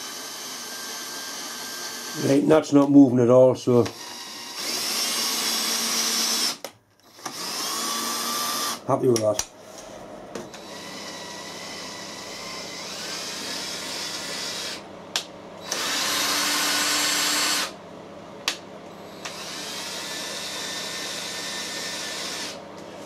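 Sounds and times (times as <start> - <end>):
cordless drill motor running: 0.0 - 3.0, 3.8 - 9.0, 10.4 - 17.8, 18.4 - 23.0.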